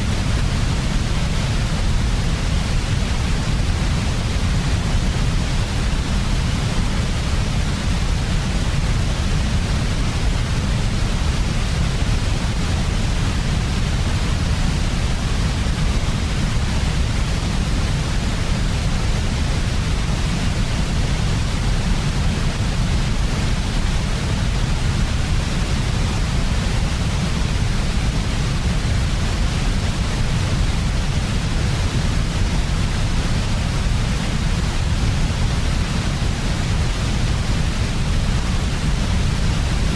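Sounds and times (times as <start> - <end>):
low rumbling white noise: 0.0 - 39.9.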